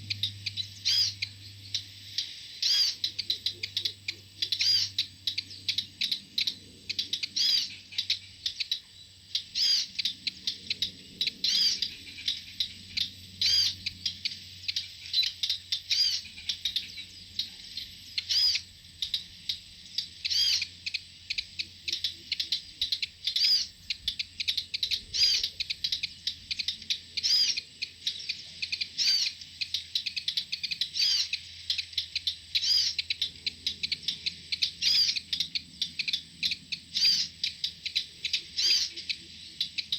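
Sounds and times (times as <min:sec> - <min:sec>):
birds chirping high: 0:00.0 - 0:39.9.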